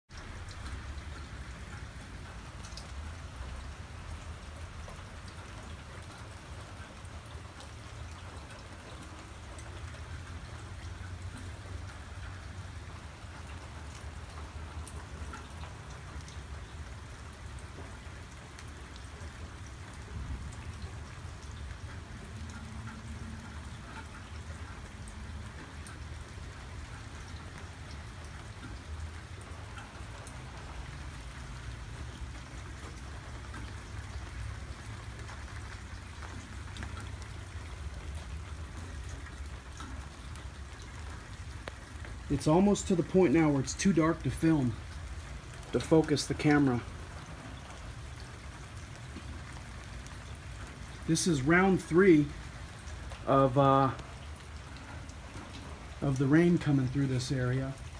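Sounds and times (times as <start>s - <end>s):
rain pattering on pavement: 0.1s - 57.9s.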